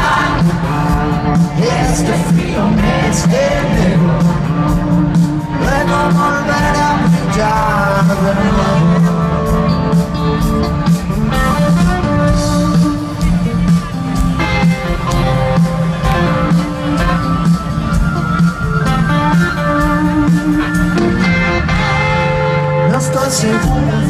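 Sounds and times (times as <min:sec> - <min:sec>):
drum beat: 0:00.0 - 0:22.5
guitar: 0:00.0 - 0:24.0
live rock band playing: 0:00.0 - 0:24.0.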